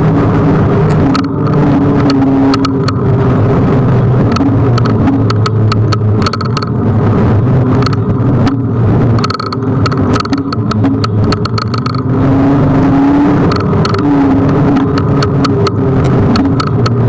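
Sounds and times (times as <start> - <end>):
electric scooter motor whine: 0.0 - 17.0
sharp rattling clicks: 0.4 - 17.0.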